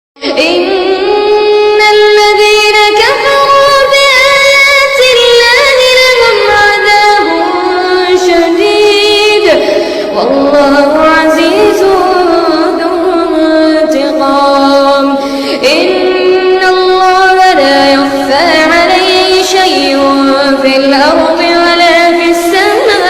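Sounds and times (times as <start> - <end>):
woman singing slow melody: 0.2 - 23.0.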